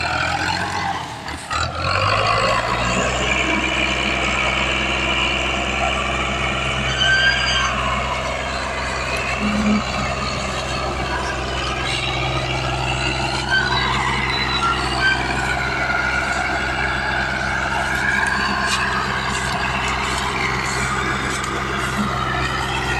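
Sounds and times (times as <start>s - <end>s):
diesel tractor engine running: 0.0s - 22.9s
high squeaks: 2.0s - 22.9s.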